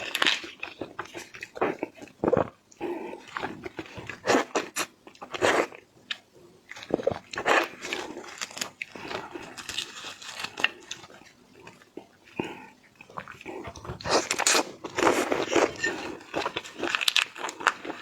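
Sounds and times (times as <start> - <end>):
crunching and chewing food: 0.0 - 18.0.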